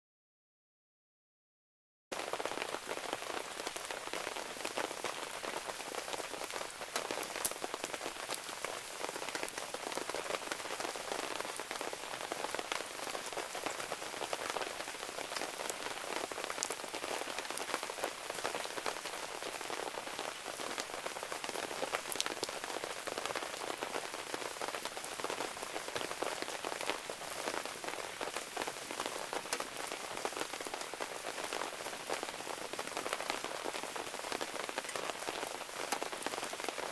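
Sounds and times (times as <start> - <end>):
rain falling: 2.1 - 36.9.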